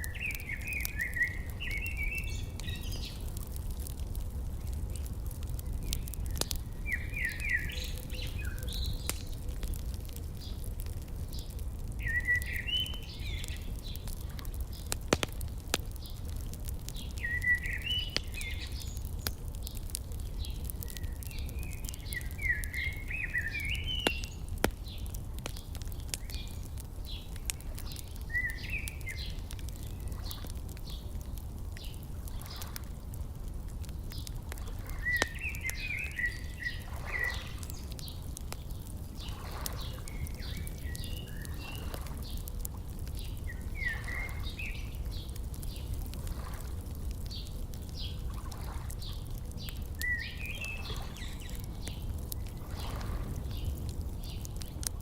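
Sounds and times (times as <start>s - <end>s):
songbird chirping: 0.0s - 4.0s, 4.8s - 15.0s, 16.0s - 32.8s, 34.1s - 46.6s, 47.2s - 54.9s
wood fire crackling: 0.0s - 55.0s.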